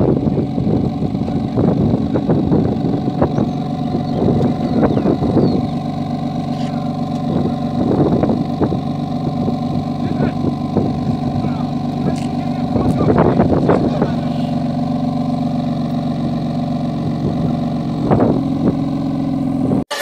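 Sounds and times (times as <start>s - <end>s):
car engine idling: 0.0s - 20.0s
exhaust pops and crackles: 0.0s - 20.0s.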